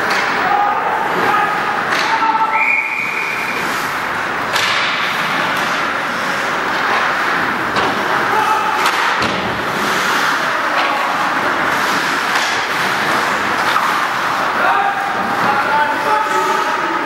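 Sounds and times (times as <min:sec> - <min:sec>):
hockey sticks and puck cracking: 0:00.0 - 0:00.5, 0:01.2 - 0:17.0
skating and arena noise: 0:00.0 - 0:17.0.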